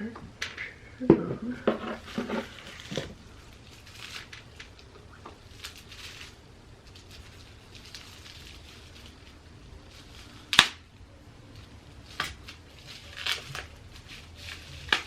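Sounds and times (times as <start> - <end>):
soft rustling: 1.3 - 10.5, 11.4 - 15.0.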